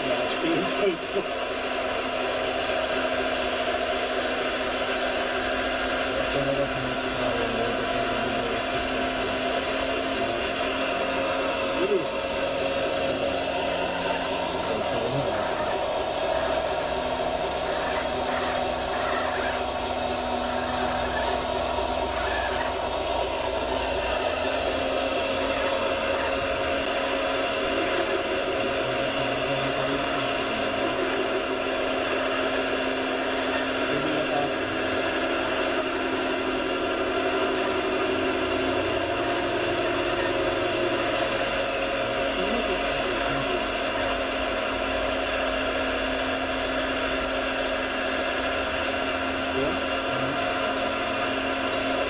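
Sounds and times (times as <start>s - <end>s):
electric motor whine: 0.0s - 52.0s
model machinery whirring hum: 0.0s - 52.0s.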